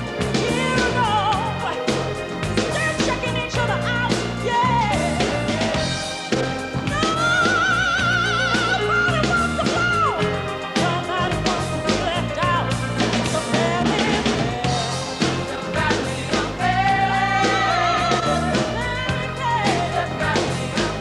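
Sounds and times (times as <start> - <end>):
pop song with singer and band: 0.0 - 21.0.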